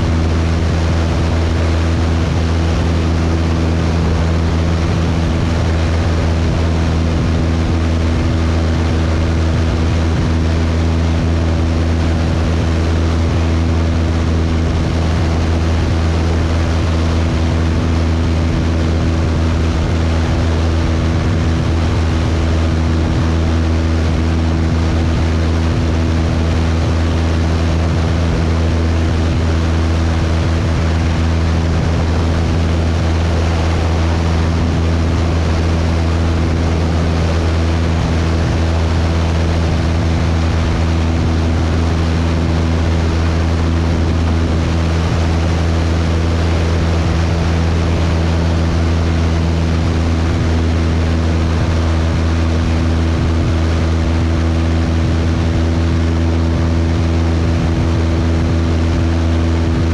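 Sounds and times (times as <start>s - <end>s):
propeller plane engine drone: 0.0s - 59.9s
wind noise: 0.0s - 59.9s.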